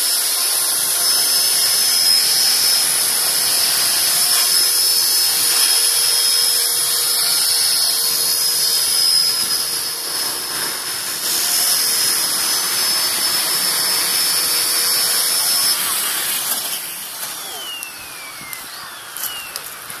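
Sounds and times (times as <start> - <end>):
high-pitched motor whine: 0.0 - 20.0
rotor blades rushing: 0.0 - 20.0.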